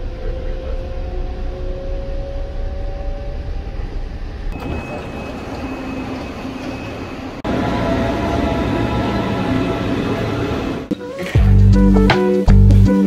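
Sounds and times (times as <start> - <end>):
train wheels rumbling: 0.0 - 10.9.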